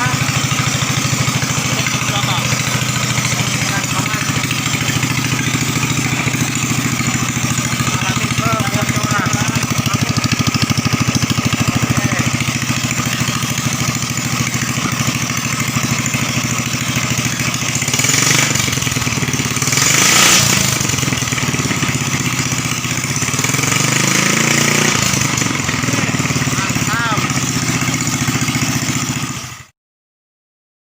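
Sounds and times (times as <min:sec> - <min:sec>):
petrol engine running: 0:00.0 - 0:29.6.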